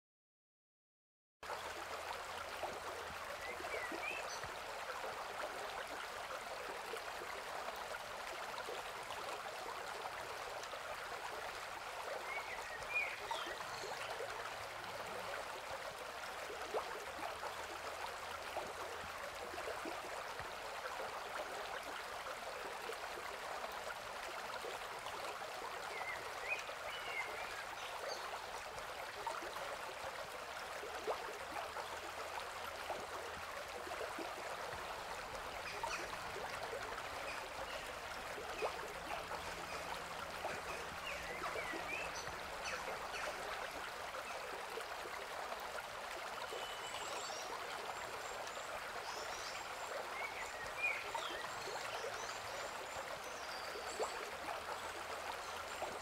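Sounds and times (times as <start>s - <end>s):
water rushing: 1.4s - 56.0s.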